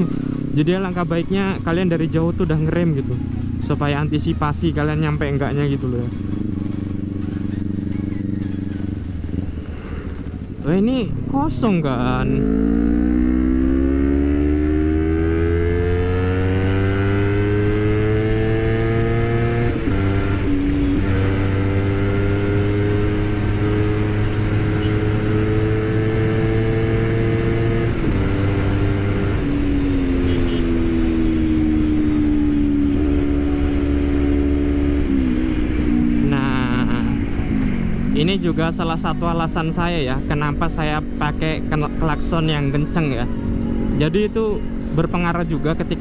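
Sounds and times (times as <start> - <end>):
motorcycle engine accelerating: 0.0 - 46.0
wind and tyre noise: 0.0 - 46.0.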